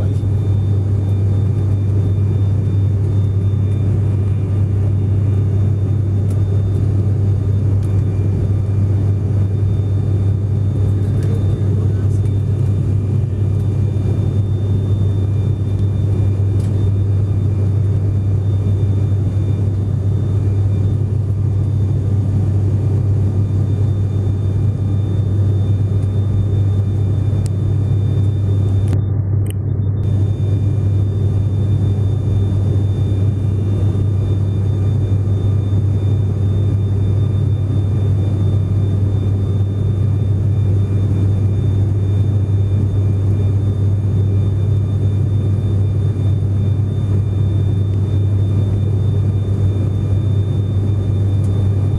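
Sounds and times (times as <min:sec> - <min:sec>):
aircraft cabin drone: 0:00.0 - 0:51.9.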